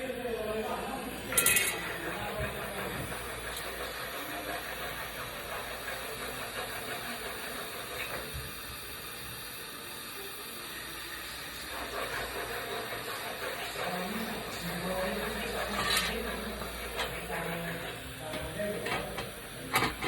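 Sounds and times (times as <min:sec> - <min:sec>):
welding hiss: 0:00.0 - 0:20.0.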